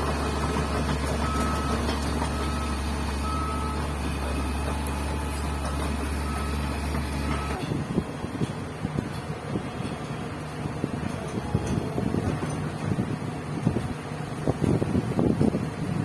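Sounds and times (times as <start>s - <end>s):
diesel engine drone: 0.0s - 16.0s.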